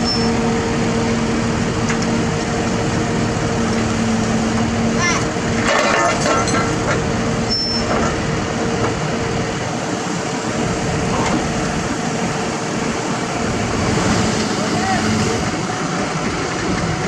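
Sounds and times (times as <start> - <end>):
heavy diesel machinery running: 0.0 - 17.0.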